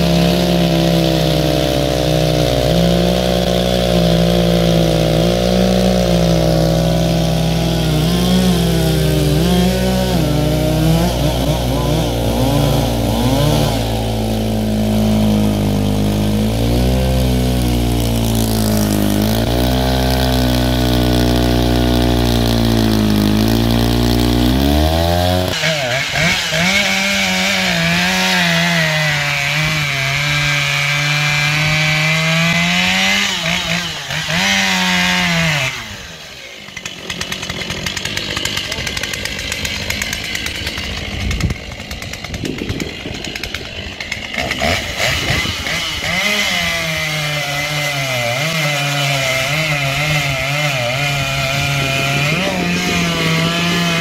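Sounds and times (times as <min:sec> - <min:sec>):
high-pitched chainsaw cutting log: 0:00.0 - 0:54.0
large chainsaw cutting log: 0:00.0 - 0:54.0.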